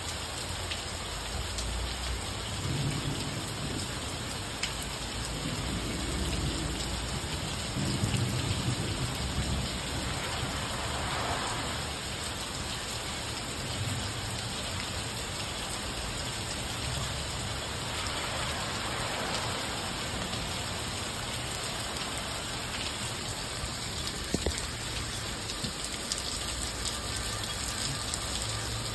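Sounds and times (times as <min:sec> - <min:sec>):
heavy rain: 0:00.0 - 0:28.9.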